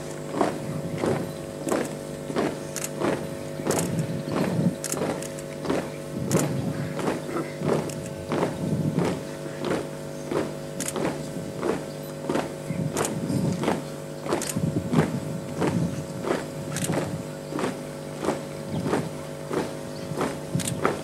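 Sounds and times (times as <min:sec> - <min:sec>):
boots marching in step: 0:00.0 - 0:21.0.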